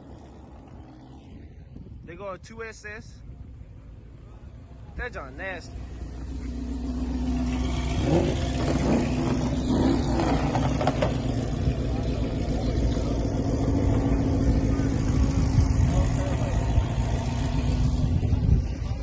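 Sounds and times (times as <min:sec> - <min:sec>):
car engine and exhaust rumbling: 0:00.0 - 0:19.0.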